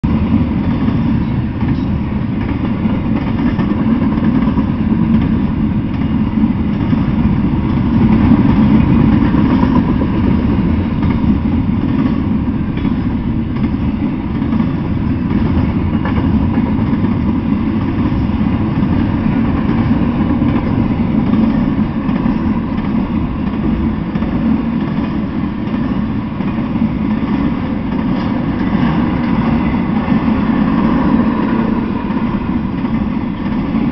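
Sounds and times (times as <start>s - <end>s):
freight train rolling past: 0.0s - 33.9s.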